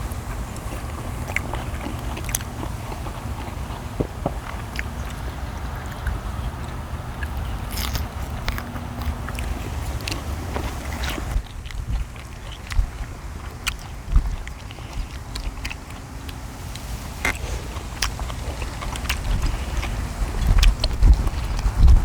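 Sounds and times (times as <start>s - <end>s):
people chewing and biting: 0.0s - 22.0s
wind rumble on microphone: 0.0s - 22.0s.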